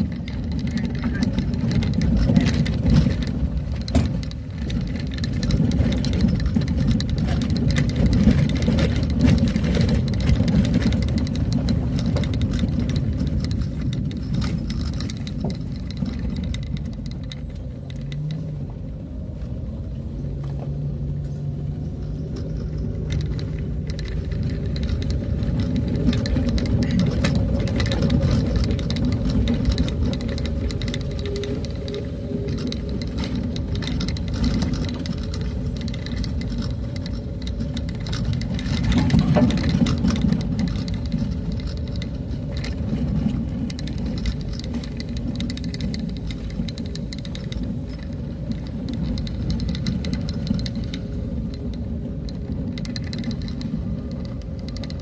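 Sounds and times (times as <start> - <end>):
rattles and knocks: 0.0 - 19.6, 20.2 - 55.0
vehicle engine and road rumble: 0.0 - 55.0.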